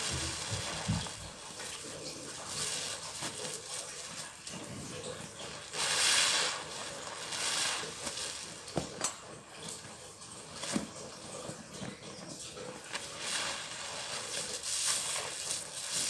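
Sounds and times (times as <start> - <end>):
sponge squelching in soap suds: 0.0 - 16.0.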